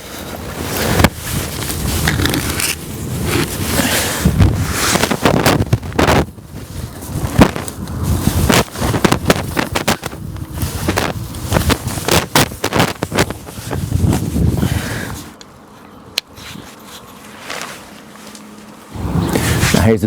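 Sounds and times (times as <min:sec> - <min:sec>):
wind buffeting microphone: 0:00.0 - 0:15.3, 0:18.9 - 0:20.0
rustling: 0:00.0 - 0:15.4, 0:16.3 - 0:19.9.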